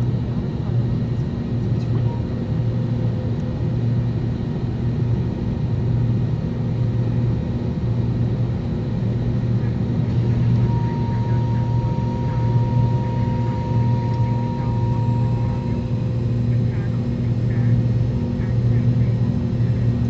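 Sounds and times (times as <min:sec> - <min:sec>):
airliner cabin engine drone: 0:00.0 - 0:20.0.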